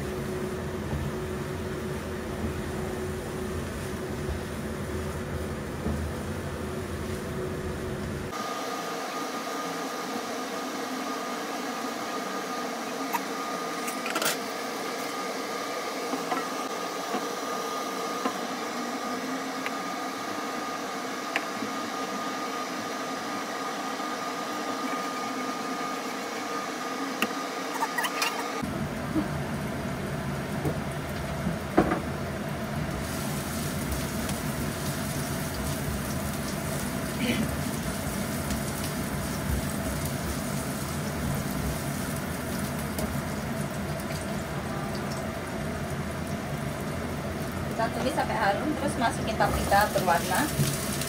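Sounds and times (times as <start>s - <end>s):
thin steady whine: 0.0s - 30.8s, 31.8s - 51.0s
induction hob hum: 0.0s - 51.0s
stir-fry sizzling in a wok: 0.0s - 51.0s.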